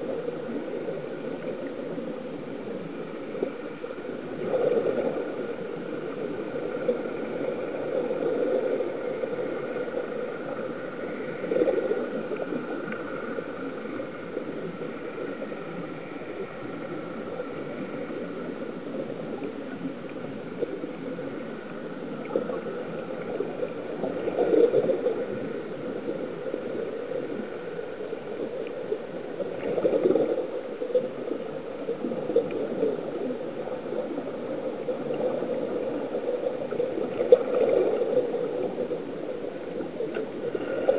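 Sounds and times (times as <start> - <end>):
muffled underwater rush: 0.0 - 40.9.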